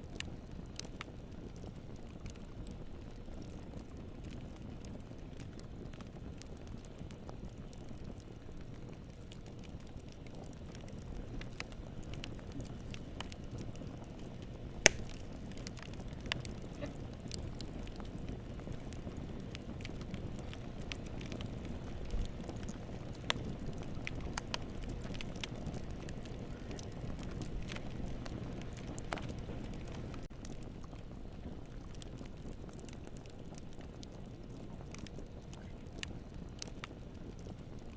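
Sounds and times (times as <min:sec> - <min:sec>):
fire burning with low rumble: 0:00.0 - 0:37.9
fire crackling and popping: 0:00.0 - 0:37.9.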